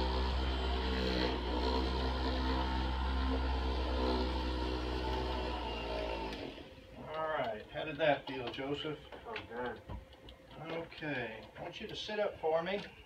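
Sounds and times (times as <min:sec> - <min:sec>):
electric massager humming: 0:00.0 - 0:12.6.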